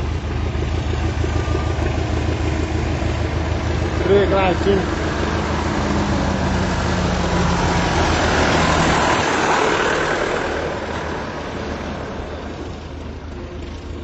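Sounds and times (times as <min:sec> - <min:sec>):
propeller plane engine: 0:00.0 - 0:14.0.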